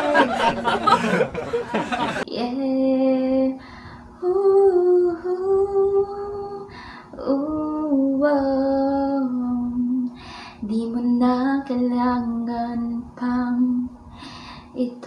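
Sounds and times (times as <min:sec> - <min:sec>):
woman singing a cappella ballad: 0:02.2 - 0:14.0, 0:14.6 - 0:15.0.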